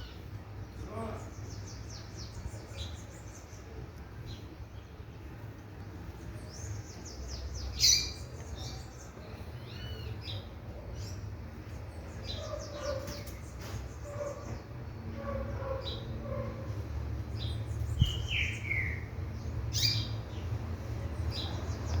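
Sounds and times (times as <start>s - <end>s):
birds chirping and calling: 0.0s - 4.9s, 5.5s - 22.0s.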